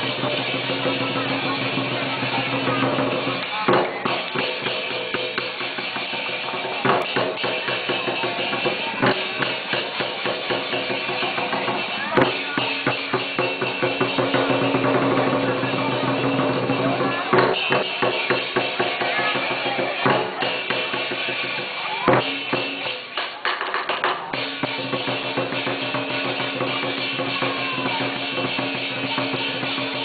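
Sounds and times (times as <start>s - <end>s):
cymbals crashing: 0.0s - 23.5s, 24.3s - 30.0s
drum beating fast strokes: 0.0s - 30.0s.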